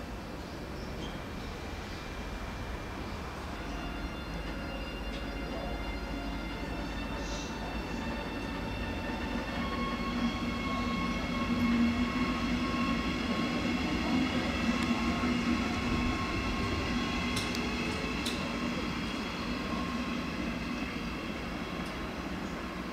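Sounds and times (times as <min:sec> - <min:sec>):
train rumble: 0:00.0 - 0:22.9.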